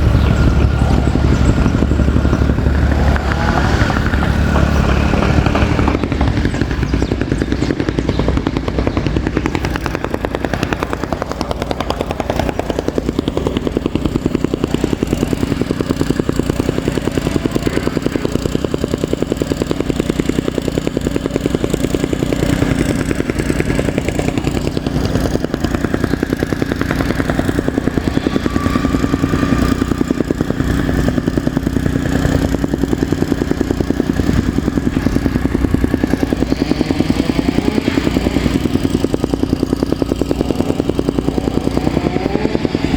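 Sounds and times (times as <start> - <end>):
soil compactor engine pulsing: 0.0 - 42.9.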